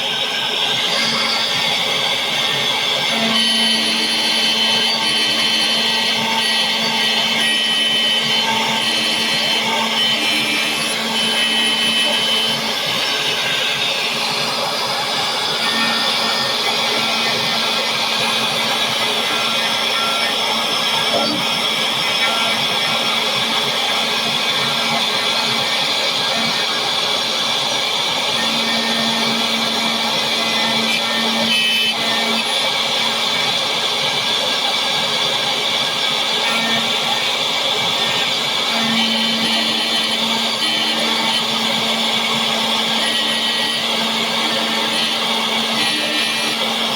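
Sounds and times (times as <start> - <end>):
key-cutting machine whirring: 0.0 - 46.9
vacuum running: 0.0 - 46.9.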